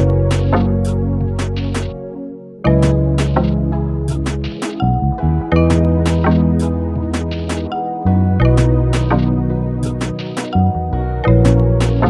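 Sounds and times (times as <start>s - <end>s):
music with heavy bass beat: 0.0s - 1.9s, 2.7s - 7.8s, 8.4s - 12.0s.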